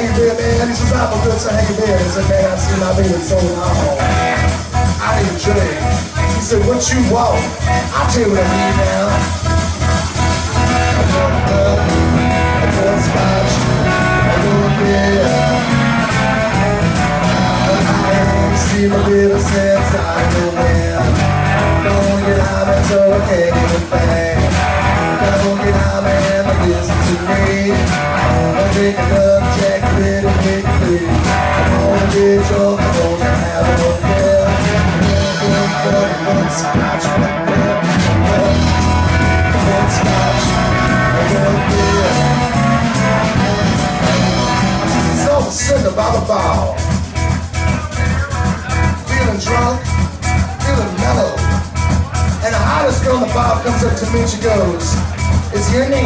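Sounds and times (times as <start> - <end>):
blues-rock band playing: 0.0 - 56.0.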